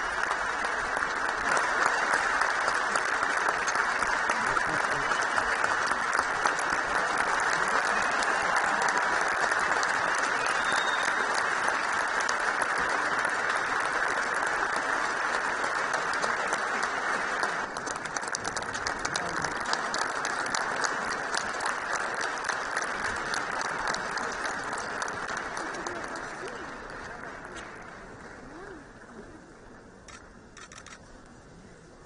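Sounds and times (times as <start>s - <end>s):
audience applauding: 0.0s - 28.8s.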